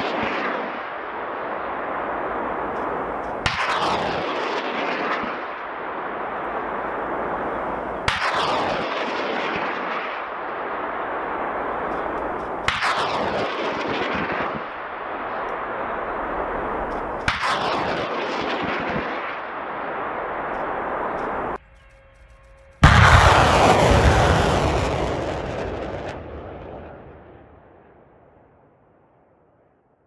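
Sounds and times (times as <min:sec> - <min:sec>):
rocket launch blasts: 0:00.0 - 0:21.6, 0:22.8 - 0:28.7
rushing rocket roar: 0:00.0 - 0:21.6, 0:22.8 - 0:28.3.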